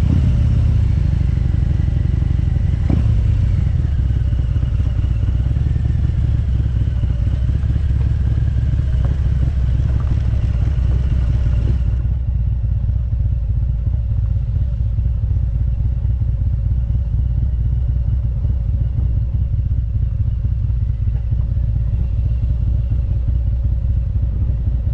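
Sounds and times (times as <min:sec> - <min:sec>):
motorcycle engine droning: 0:00.0 - 0:24.9.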